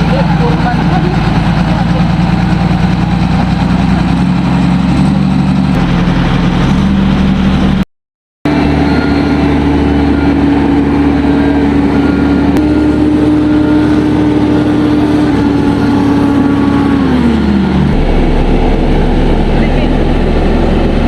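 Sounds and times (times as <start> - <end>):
diesel engine running at high revs: 0.0 - 7.8, 8.5 - 21.0.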